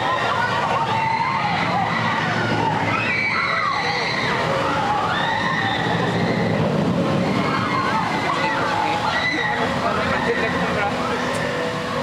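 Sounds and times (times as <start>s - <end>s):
people screaming: 0.0s - 12.0s
roller coaster rumbling: 0.0s - 12.0s.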